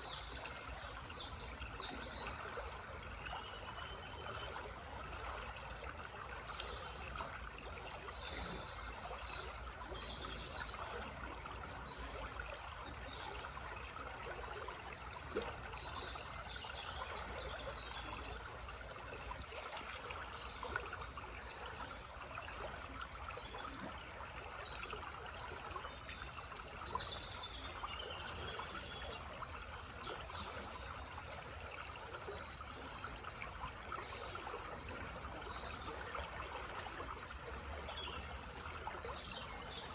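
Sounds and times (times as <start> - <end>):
forest stream babbling: 0.0 - 39.9.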